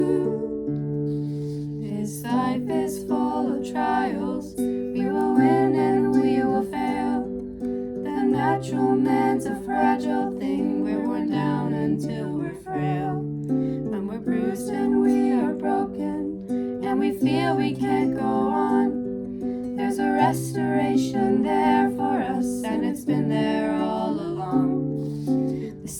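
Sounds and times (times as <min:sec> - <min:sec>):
person singing gently: 0:00.0 - 0:19.1, 0:19.7 - 0:25.9
plucked acoustic guitar: 0:00.0 - 0:25.9.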